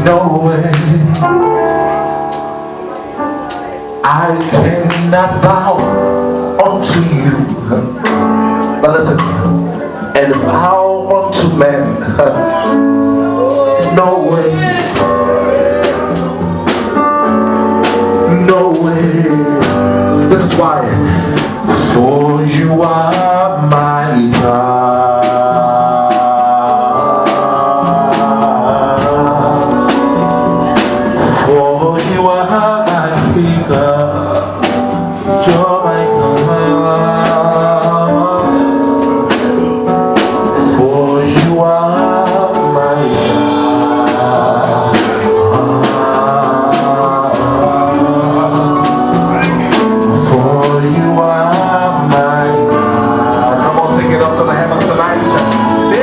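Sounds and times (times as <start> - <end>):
gospel band playing: 0.0 - 56.0
person singing: 0.0 - 56.0.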